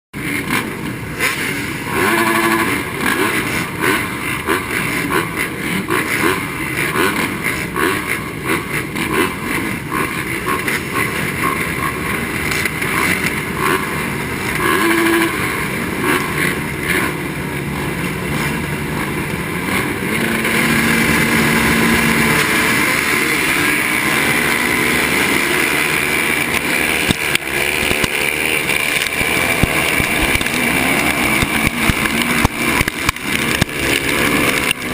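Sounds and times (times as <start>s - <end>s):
motocross bike engine revving: 0.2s - 34.9s.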